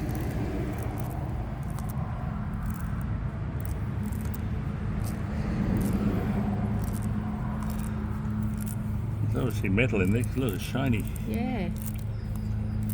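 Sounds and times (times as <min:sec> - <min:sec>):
engine humming: 0:00.0 - 0:12.9.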